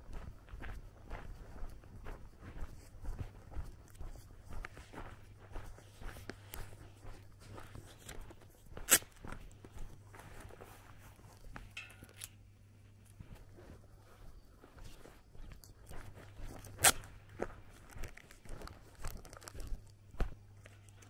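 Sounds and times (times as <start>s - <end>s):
footsteps on dirt: 0.0s - 12.0s, 13.1s - 20.9s.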